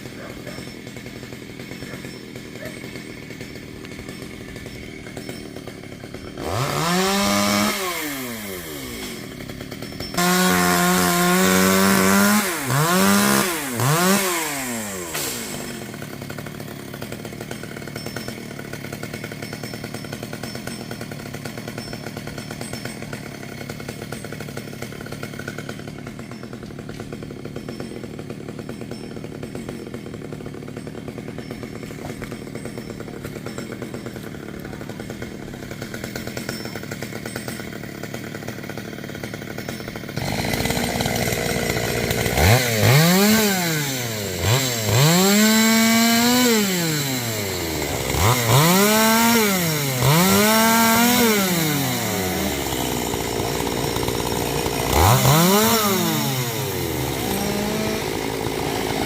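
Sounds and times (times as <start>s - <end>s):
chainsaw engine idling and revving: 0.0s - 59.0s.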